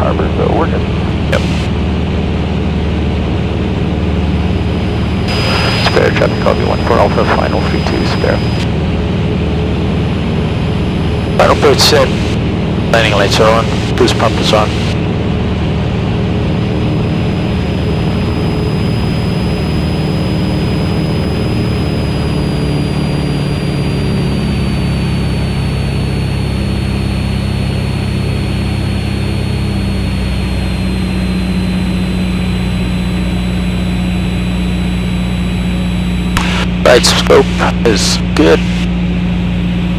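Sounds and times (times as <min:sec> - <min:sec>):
propeller aircraft engine droning: 0:00.1 - 0:39.9.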